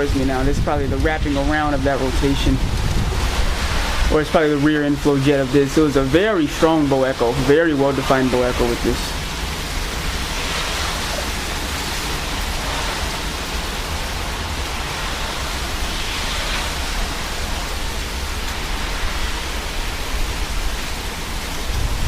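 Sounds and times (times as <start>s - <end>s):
gusty wind buffeting microphone: 0.0s - 22.0s.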